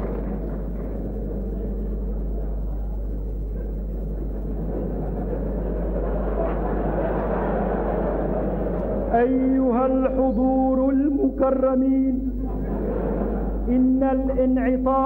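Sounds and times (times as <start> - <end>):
murmur of audience: 0.0 - 10.8, 12.2 - 14.0
low mains hum: 0.0 - 15.0.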